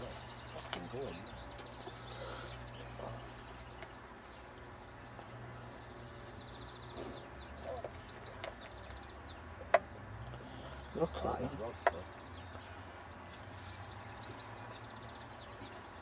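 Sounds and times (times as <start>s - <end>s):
birds singing: 0.0s - 16.0s
low steady hum: 0.0s - 16.0s.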